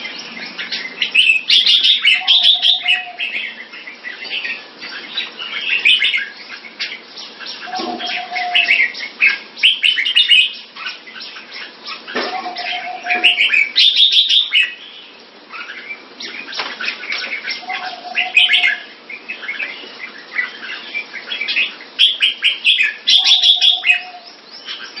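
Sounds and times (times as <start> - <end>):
bird chirping: 0.0 - 25.0
quiet bird calls: 0.0 - 25.0.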